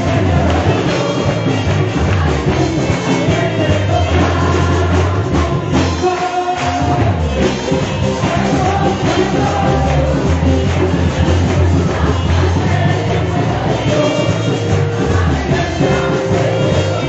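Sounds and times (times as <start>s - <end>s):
church band playing over loudspeakers: 0.0s - 17.0s
person singing: 0.0s - 17.0s
steady bass: 0.0s - 17.0s.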